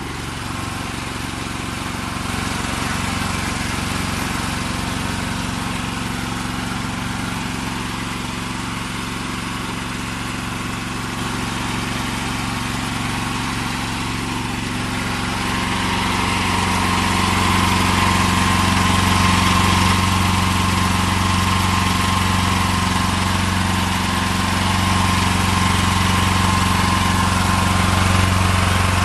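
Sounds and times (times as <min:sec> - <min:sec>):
small petrol engine running: 0:00.0 - 0:29.0.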